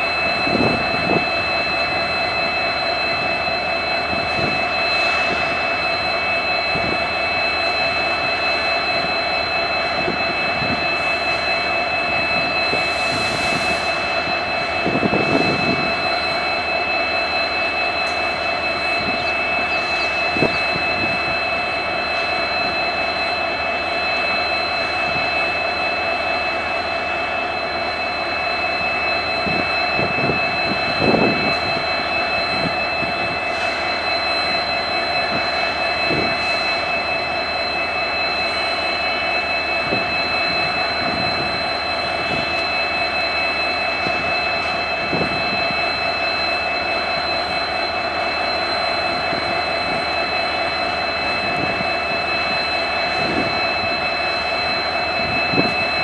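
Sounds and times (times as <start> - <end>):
diesel locomotive engines idling: 0.0 - 56.0
high turbocharger whine: 0.0 - 56.0.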